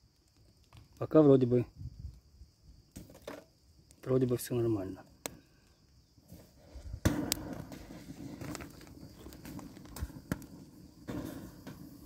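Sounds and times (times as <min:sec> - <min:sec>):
fire burning with crackles: 0:00.0 - 0:12.0
fire crack: 0:00.0 - 0:12.0.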